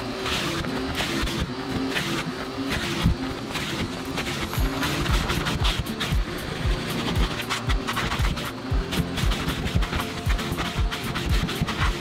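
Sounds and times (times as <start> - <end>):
background music: 0.0 - 12.0
vacuum nozzle sucking debris: 0.0 - 12.0.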